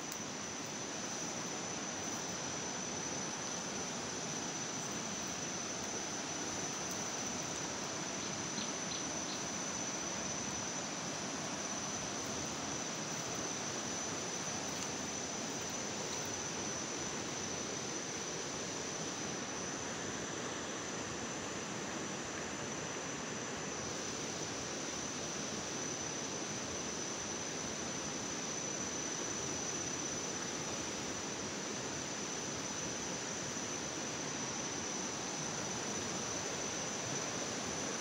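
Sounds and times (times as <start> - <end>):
constant high-pitched whine: 0.0 - 38.0.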